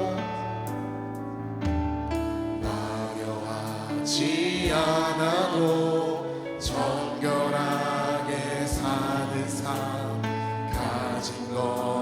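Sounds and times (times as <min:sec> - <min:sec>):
people singing praise song: 0:00.0 - 0:00.7, 0:02.6 - 0:12.0
instrumental accompaniment: 0:00.0 - 0:12.0.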